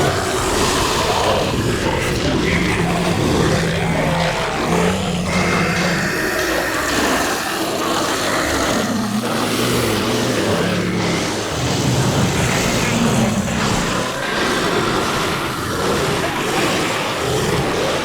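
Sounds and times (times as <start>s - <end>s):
low growling voices: 0.0s - 18.0s.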